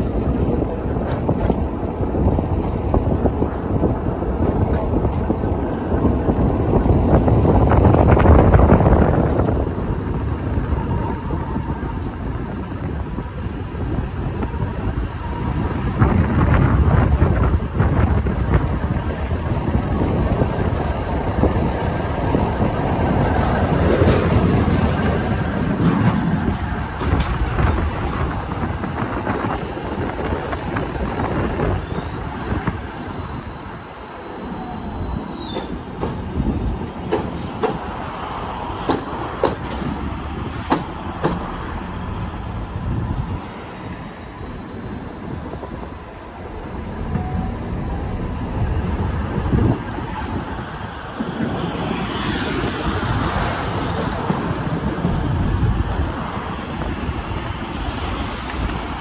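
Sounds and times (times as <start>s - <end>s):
tram wheels rumbling on track: 0.0s - 59.0s.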